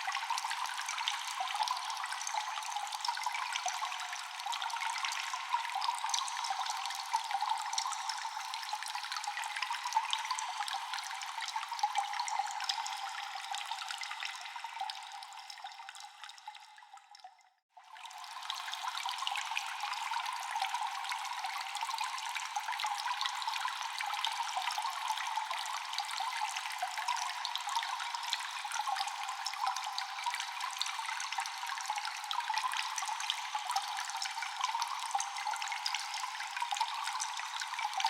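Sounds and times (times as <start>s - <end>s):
water dripping in a cave: 0.0s - 38.0s.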